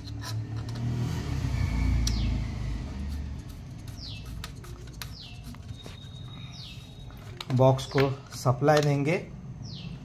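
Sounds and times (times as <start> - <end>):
bird chirping: 1.7 - 10.0.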